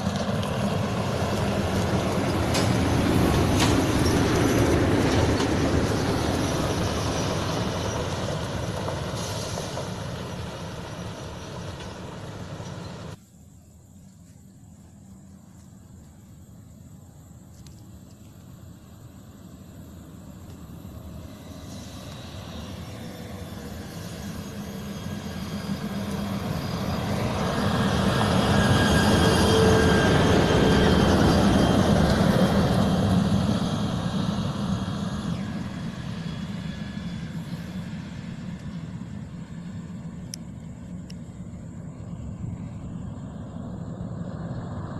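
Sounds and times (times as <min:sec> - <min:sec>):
heavy truck passing on dirt road: 0:00.0 - 0:13.2, 0:18.6 - 0:44.9.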